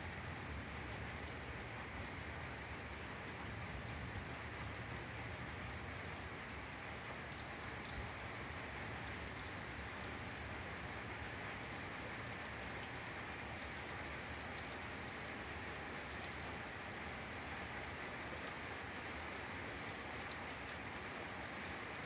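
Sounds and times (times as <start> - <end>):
steady rain on grass: 0.0 - 22.0.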